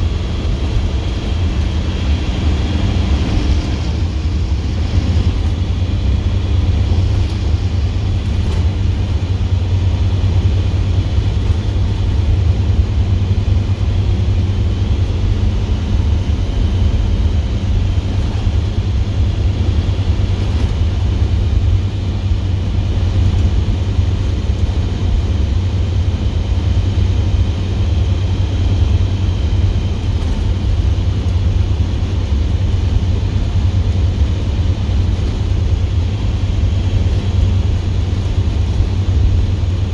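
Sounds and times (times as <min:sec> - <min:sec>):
diesel engine deep drone: 0:00.0 - 0:39.9.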